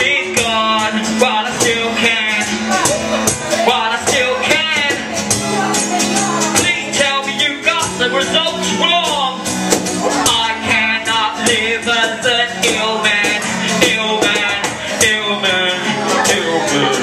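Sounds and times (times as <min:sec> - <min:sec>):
acoustic guitar: 0:00.0 - 0:17.0
person singing: 0:00.0 - 0:17.0.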